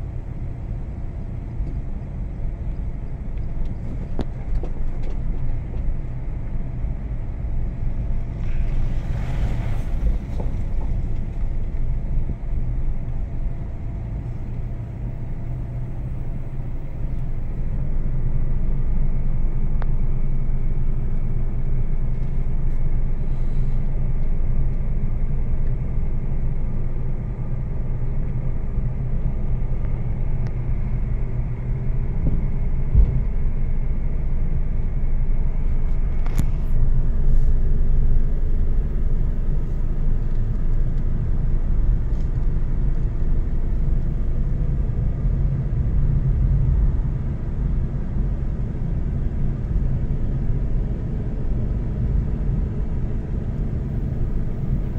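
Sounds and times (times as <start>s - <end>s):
car engine and tyres rumble: 0.0s - 54.9s.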